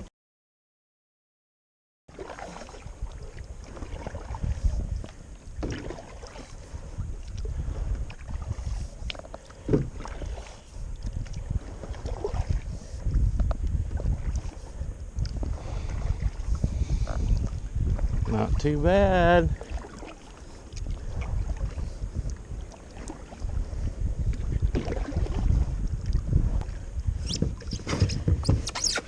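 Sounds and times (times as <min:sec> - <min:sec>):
paddle strokes splashing water: 0:02.1 - 0:29.0
wind on microphone: 0:02.4 - 0:29.0.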